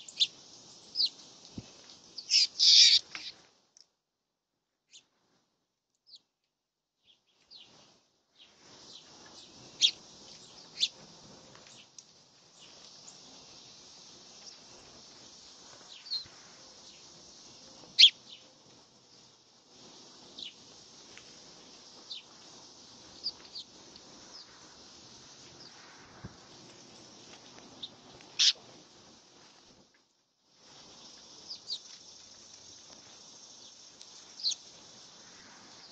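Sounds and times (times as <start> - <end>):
small songbirds chirping: 0.0 - 3.4, 6.0 - 6.3, 7.0 - 19.5, 20.2 - 28.6, 30.7 - 35.9
faint steady hiss: 0.0 - 35.9.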